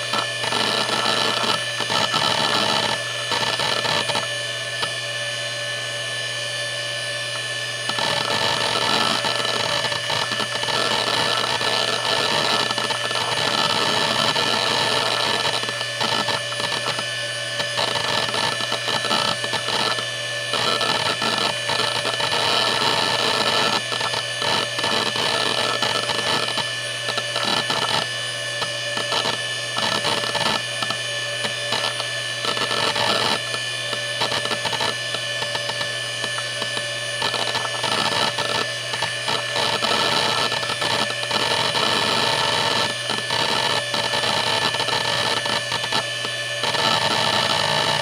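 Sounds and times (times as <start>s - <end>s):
hard drive humming and whining: 0.0s - 48.0s.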